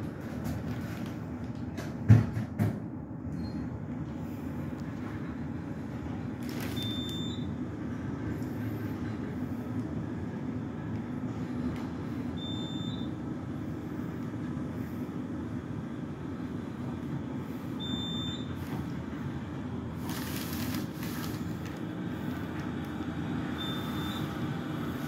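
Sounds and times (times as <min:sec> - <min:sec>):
light rail train rumbling: 0:00.0 - 0:25.0.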